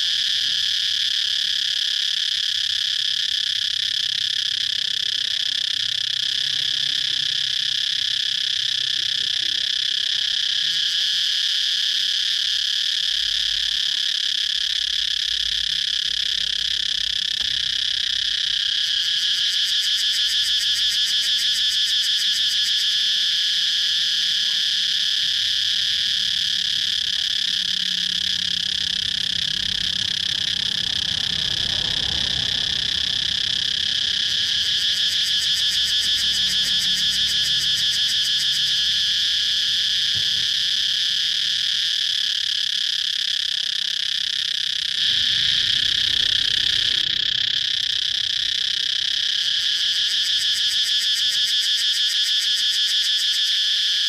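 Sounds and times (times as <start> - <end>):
cicadas chorus: 0.0 - 54.0
rapidly pulsing insect call: 0.0 - 54.0.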